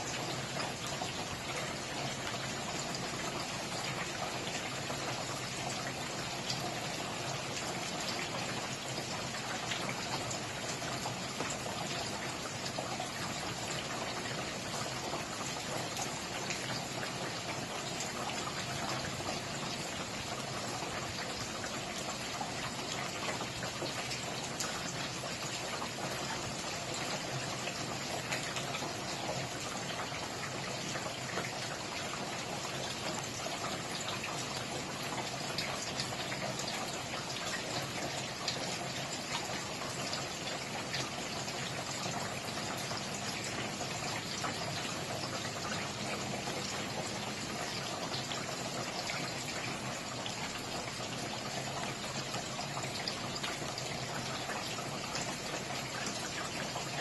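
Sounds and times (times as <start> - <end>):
raindrops ticking on a surface: 0.0 - 57.0
steady rain hissing: 0.0 - 57.0.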